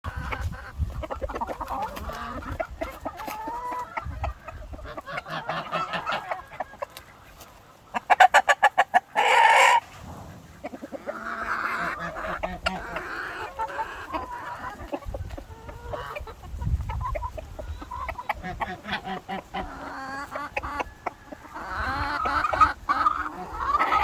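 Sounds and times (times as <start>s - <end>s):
rooster and hens clucking: 0.0s - 24.0s
loud clucks: 0.1s - 24.0s.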